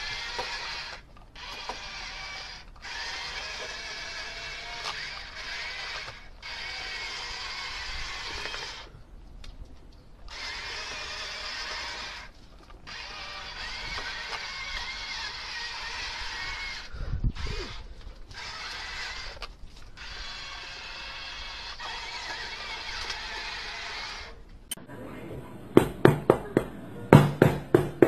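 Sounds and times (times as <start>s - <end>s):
toy tank motors whirring: 0.0s - 9.0s, 10.3s - 24.4s.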